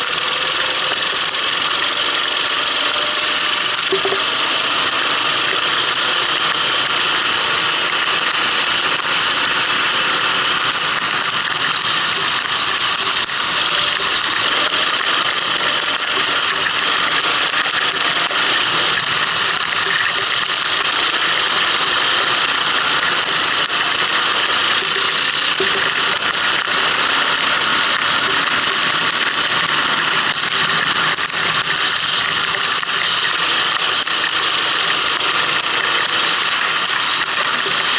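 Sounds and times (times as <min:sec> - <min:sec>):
racing kart engine: 0:00.0 - 0:37.9.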